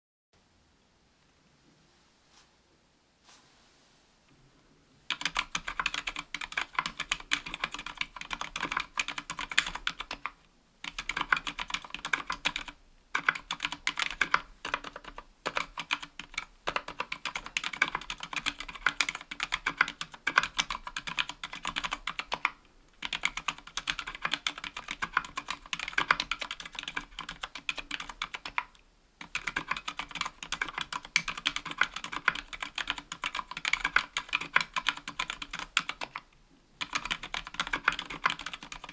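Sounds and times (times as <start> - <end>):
fast typing on mechanical keyboard: 5.1 - 38.9.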